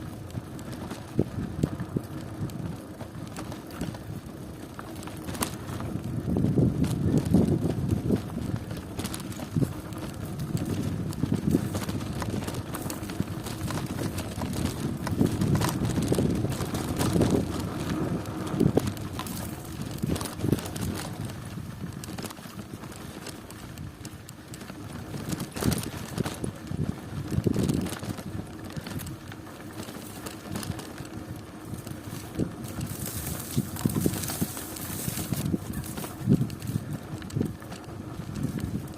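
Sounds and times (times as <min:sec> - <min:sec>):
bicycle tyre rumble: 0:00.0 - 0:38.9
bike knocks and rattles: 0:00.0 - 0:38.9.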